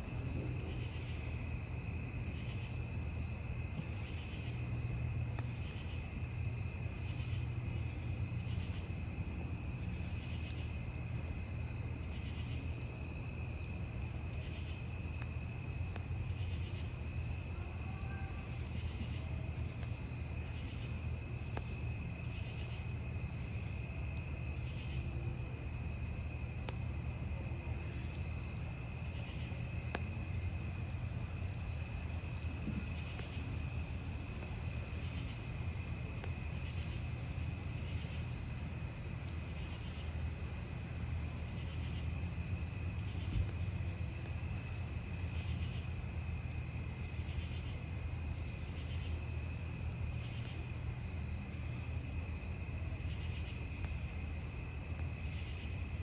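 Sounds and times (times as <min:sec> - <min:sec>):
fire popping: 0:00.0 - 0:48.7
campfire crackling: 0:00.0 - 0:56.0
cricket chirping: 0:00.0 - 0:56.0
crickets trilling: 0:00.0 - 0:56.0.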